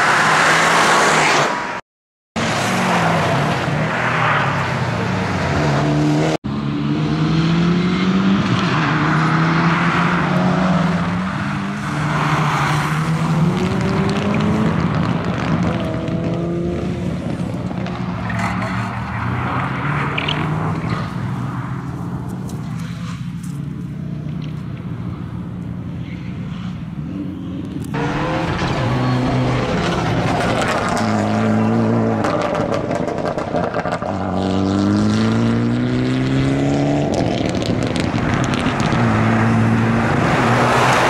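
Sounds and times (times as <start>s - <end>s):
car engine revving: 2.4s - 24.5s, 27.2s - 41.0s.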